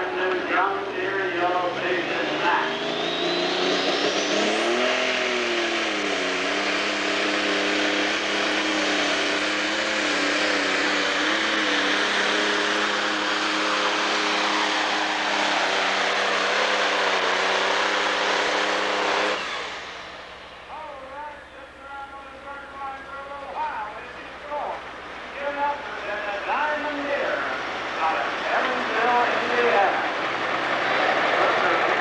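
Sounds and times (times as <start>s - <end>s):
tractor diesel engine at full power: 0.0s - 32.0s.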